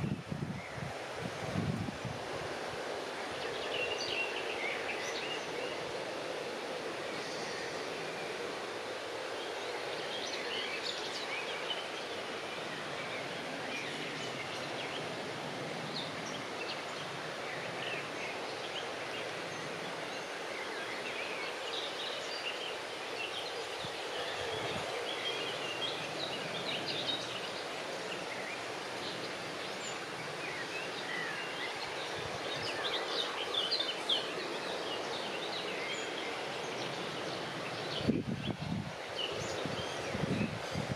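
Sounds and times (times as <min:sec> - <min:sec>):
steady background hiss: 0:00.0 - 0:40.9.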